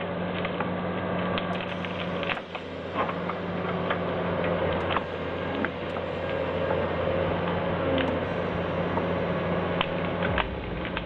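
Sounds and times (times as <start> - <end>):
heavy machinery engine humming: 0.0 - 11.0.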